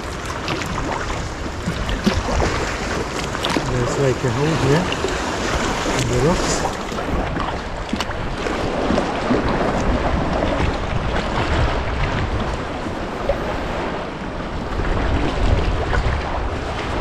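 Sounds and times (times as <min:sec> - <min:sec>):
water lapping against rocks: 0:00.0 - 0:17.0
wind rumble on microphone: 0:00.0 - 0:17.0.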